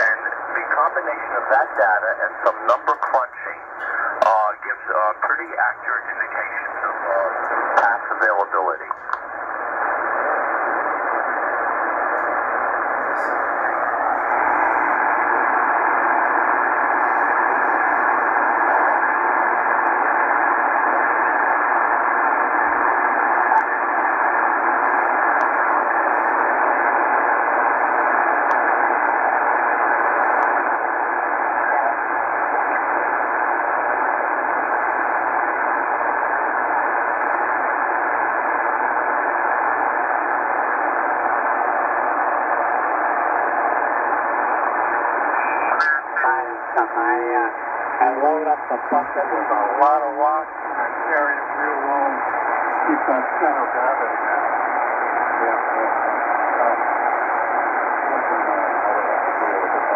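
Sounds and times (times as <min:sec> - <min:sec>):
radio static hiss: 0:00.0 - 0:59.9.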